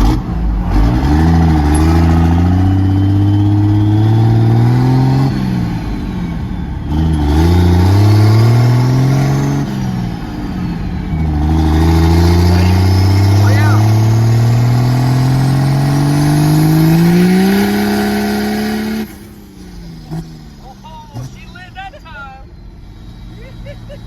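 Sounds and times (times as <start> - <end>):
diesel truck accelerating hard: 0.0 - 24.0.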